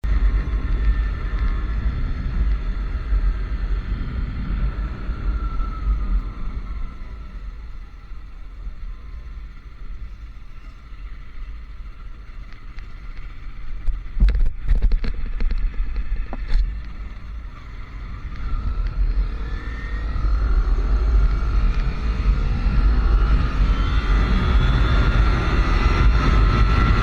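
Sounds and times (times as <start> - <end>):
motorcycle engine accelerating: 0.0 - 27.0
wind rumbling on microphone: 0.0 - 27.0.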